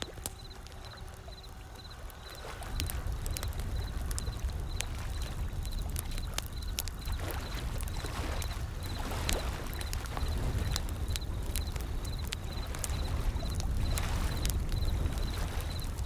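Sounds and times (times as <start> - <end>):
ocean waves rumbling: 0.0 - 16.0
wood fire crackling and popping: 0.0 - 16.0.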